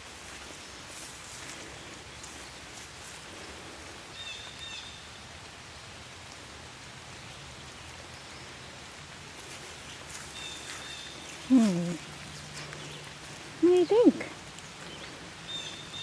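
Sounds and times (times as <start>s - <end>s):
soft outdoor hiss: 0.0s - 16.0s.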